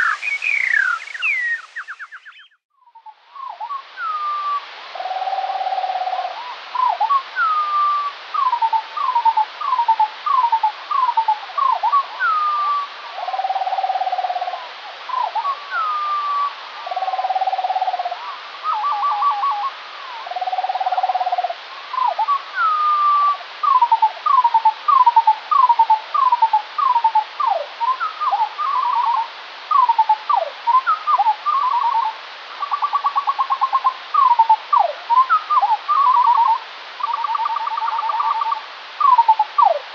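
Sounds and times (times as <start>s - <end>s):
slowed bird song: 0.0s - 39.8s
steady hiss: 0.0s - 39.9s.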